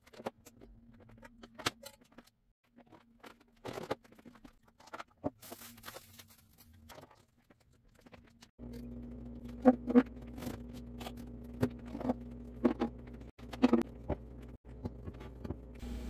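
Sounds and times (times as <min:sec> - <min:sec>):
plastic containers and dishes handled: 0:00.0 - 0:15.7.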